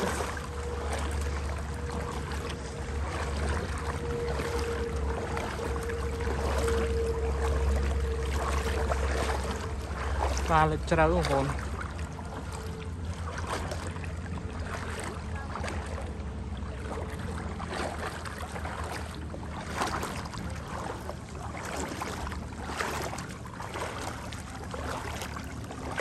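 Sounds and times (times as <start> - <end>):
water rushing and splashing: 0.0 - 26.0.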